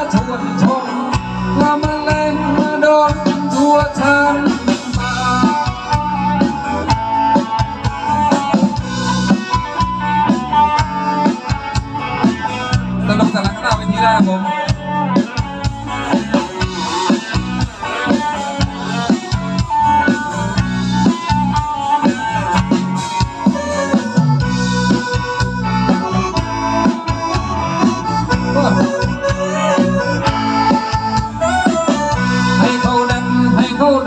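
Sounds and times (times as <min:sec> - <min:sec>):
bass: 0:00.0 - 0:34.0
reedy melody instrument: 0:00.0 - 0:34.0
steady drums: 0:00.0 - 0:34.0.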